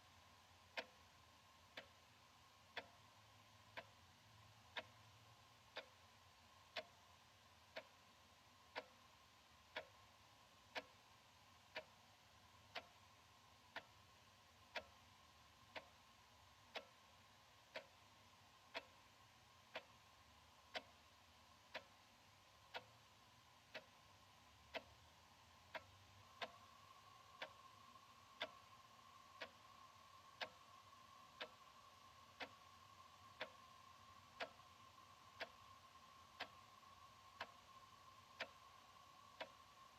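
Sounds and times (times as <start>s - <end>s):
faint steady hum: 0.0s - 39.9s
wall clock ticking: 0.0s - 39.9s.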